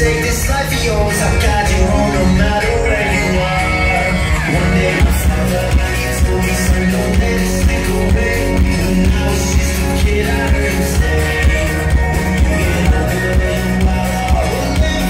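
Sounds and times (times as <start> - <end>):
heavy bass and drum beat: 0.0 - 15.0
pop-rock song with vocals: 0.0 - 15.0.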